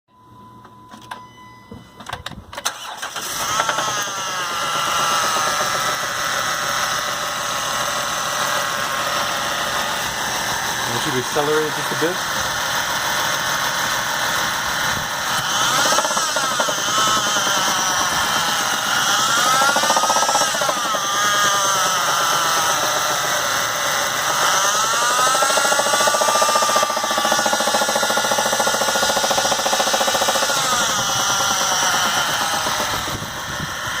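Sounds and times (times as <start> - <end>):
car engine revving: 2.8 - 34.0
engine knocking: 3.3 - 34.0.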